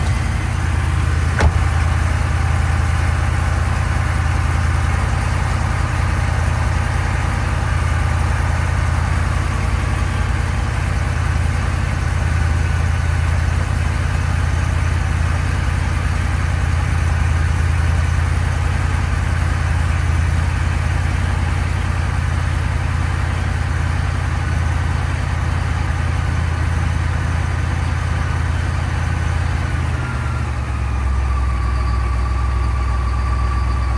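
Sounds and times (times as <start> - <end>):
vehicle engine drone: 0.0 - 33.9.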